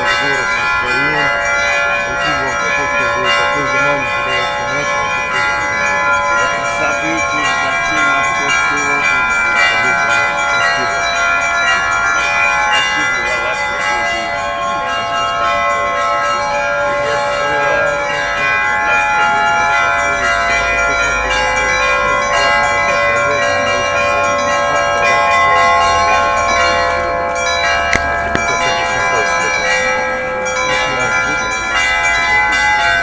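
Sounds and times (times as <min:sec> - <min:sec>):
church bells pealing: 0:00.0 - 0:33.0.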